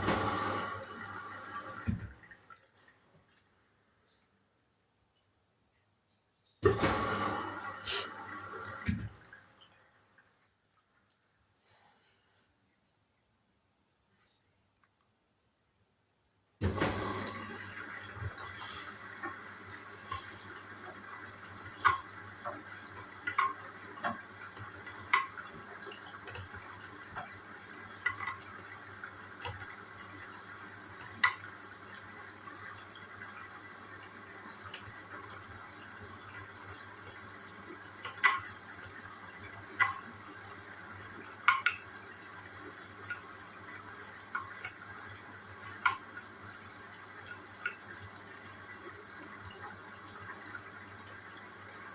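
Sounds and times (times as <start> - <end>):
water rushing into washing machine: 0.0 - 3.1, 6.6 - 10.3, 16.6 - 51.9.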